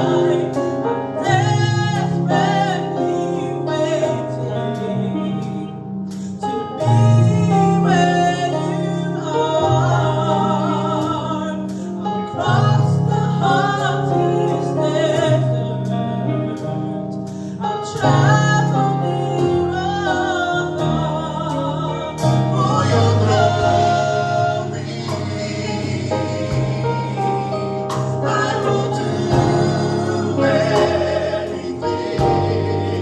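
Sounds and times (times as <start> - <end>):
gospel band playing: 0.0 - 33.0.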